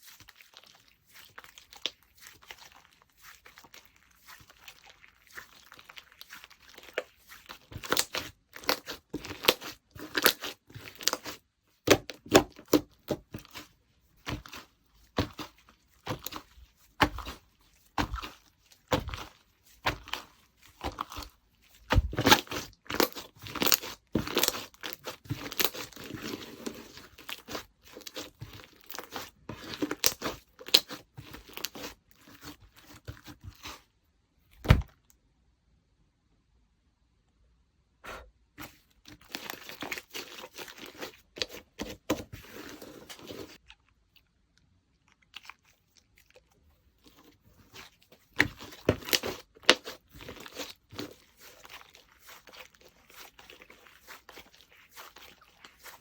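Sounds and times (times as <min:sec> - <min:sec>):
slime squished by hand: 0:00.0 - 0:33.9, 0:38.1 - 0:56.0.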